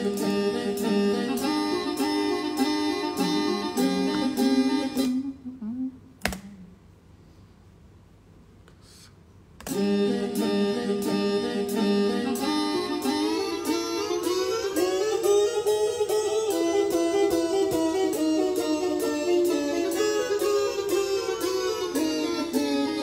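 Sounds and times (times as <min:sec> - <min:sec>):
recorded song playing: 0:00.0 - 0:05.4, 0:09.7 - 0:23.0.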